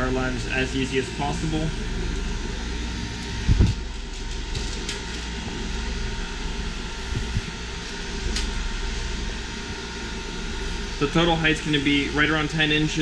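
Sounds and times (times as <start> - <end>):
blower fan: 0.0 - 13.0
heat pump humming: 0.0 - 13.0.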